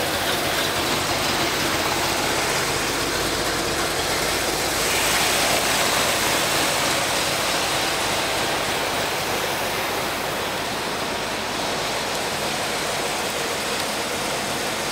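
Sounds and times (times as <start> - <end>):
car engine idling: 0.0 - 14.9
even hiss: 0.0 - 14.9.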